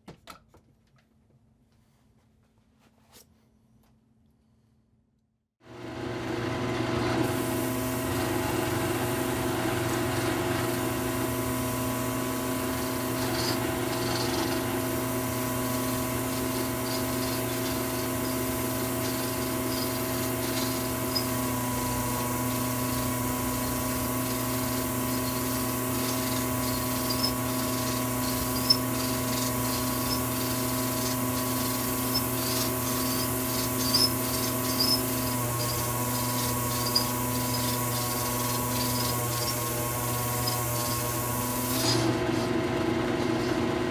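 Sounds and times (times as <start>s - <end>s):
drill press motor hum: 5.8s - 43.9s
cutter scraping metal: 7.6s - 43.6s.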